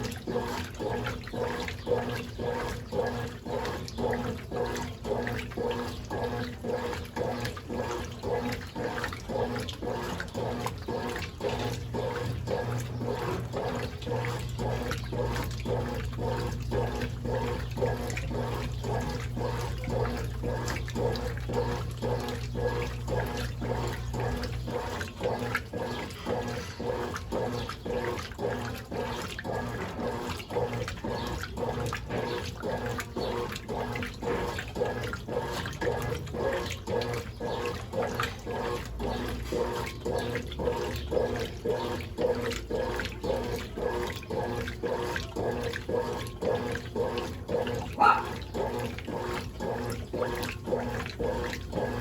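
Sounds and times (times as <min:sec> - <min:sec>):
low motor hum: 0:00.0 - 0:52.0
washing machine water sloshing: 0:00.0 - 0:52.0.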